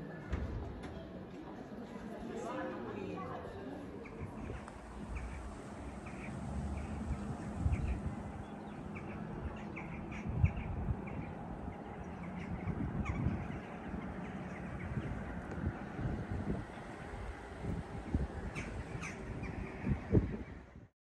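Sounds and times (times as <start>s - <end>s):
birds chirping: 4.0s - 20.9s
wind on microphone: 4.0s - 20.9s.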